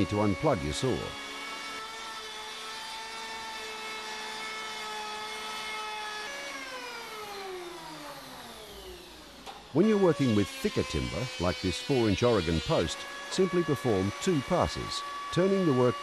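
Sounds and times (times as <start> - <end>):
electric planer whining: 0.0 - 16.0.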